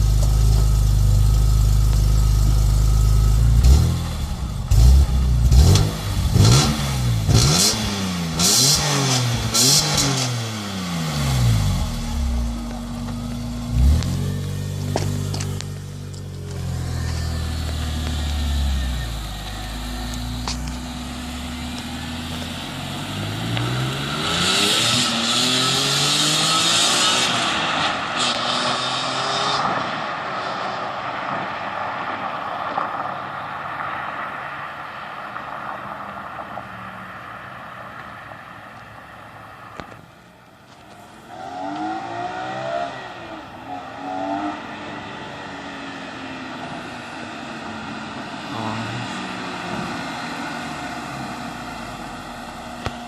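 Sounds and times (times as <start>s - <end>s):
car engine accelerating: 0.0s - 34.4s, 40.8s - 53.0s.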